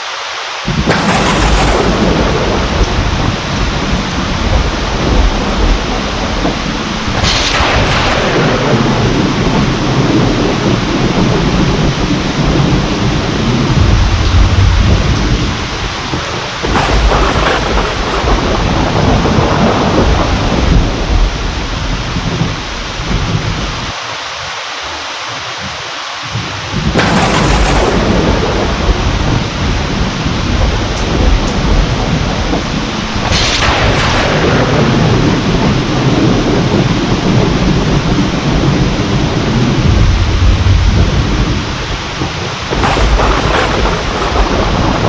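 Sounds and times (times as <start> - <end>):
heavy rain: 0.0 - 45.0
sharp thunderclap: 0.7 - 23.9, 26.3 - 45.0
rolling thunder: 0.7 - 24.0, 26.3 - 45.0.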